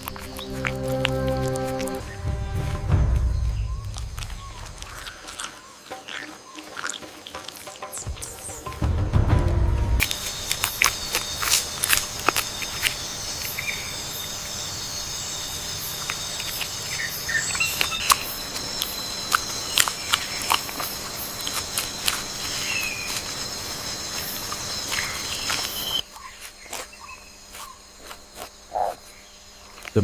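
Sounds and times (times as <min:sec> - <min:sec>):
crickets and insects chorus: 0:00.0 - 0:30.0.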